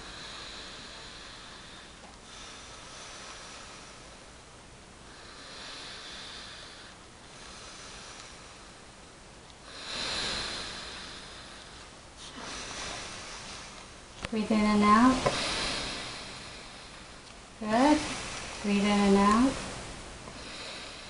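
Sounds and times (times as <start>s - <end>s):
man breathing deeply: 0.0s - 9.0s, 9.6s - 14.1s, 14.8s - 18.7s, 19.5s - 21.0s.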